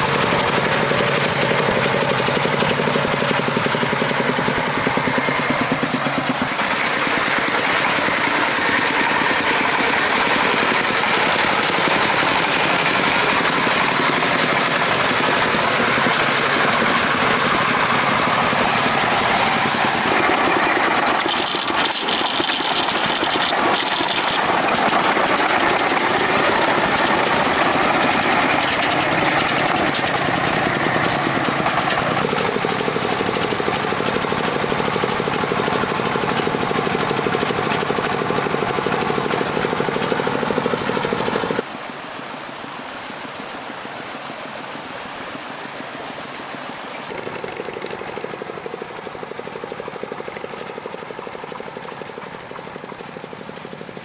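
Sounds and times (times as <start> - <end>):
truck engine knocking: 0.0 - 41.6, 47.1 - 54.0.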